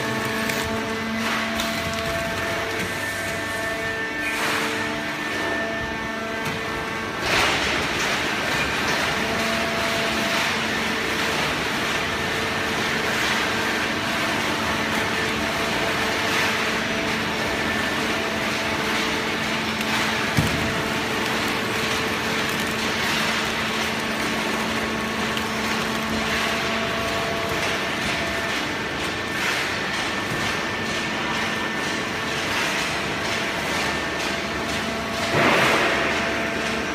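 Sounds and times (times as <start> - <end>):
hydraulic baler pump hum: 0.0 - 36.9.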